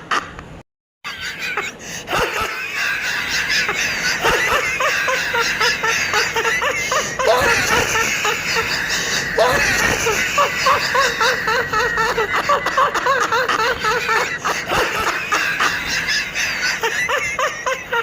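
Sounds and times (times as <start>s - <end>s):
people laughing and shrieking: 1.1s - 18.0s.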